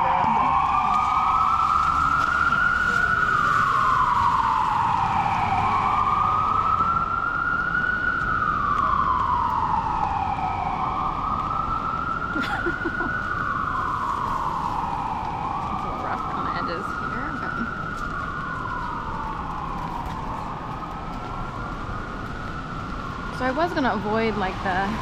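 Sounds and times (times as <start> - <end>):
ambulance siren wailing: 0.0 - 25.0.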